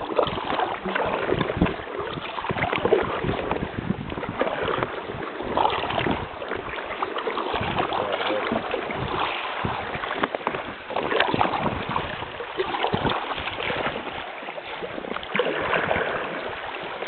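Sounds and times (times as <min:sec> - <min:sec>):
kayak paddle splashing: 0:00.0 - 0:17.0.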